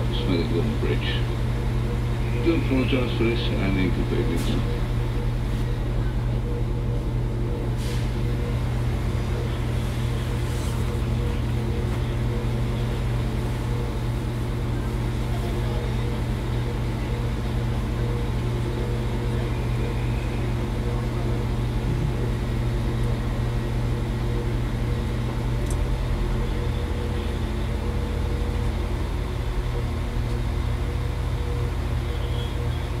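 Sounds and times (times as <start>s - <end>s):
train diesel engine idling: 0.0s - 33.0s.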